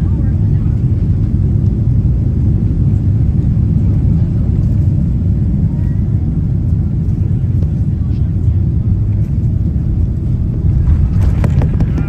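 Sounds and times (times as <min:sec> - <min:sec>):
airplane cabin low rumble: 0:00.0 - 0:12.0.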